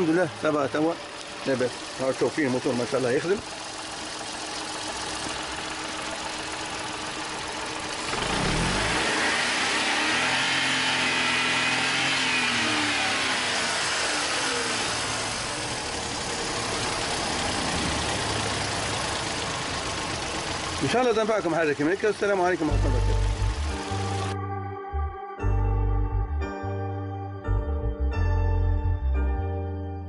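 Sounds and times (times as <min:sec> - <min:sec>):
car engine idling and revving: 0:00.0 - 0:24.4.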